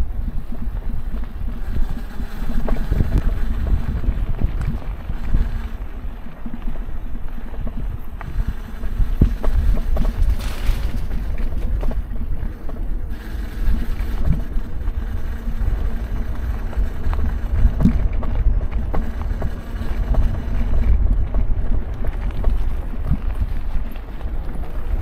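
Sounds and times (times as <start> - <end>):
faint steady hum: 0.0 - 25.0
wind rumbling on microphone: 0.0 - 25.0.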